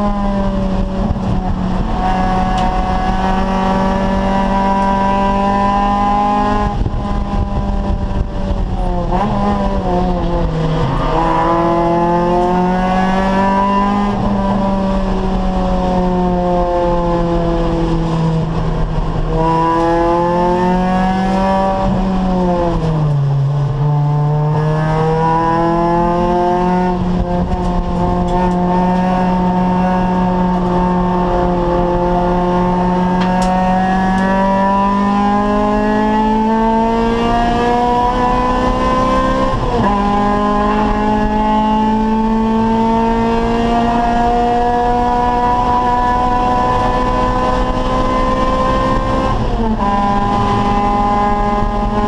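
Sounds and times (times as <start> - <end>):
race car engine at speed: 0.0 - 52.0.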